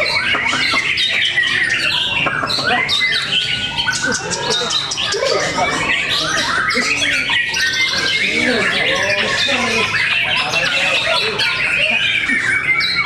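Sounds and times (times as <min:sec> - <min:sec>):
songbirds singing and chattering: 0:00.0 - 0:13.0.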